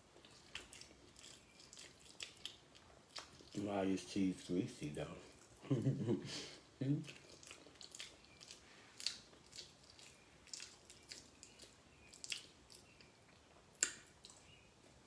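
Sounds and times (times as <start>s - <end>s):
person chewing with wet smacks: 0.0s - 5.8s, 6.6s - 15.0s.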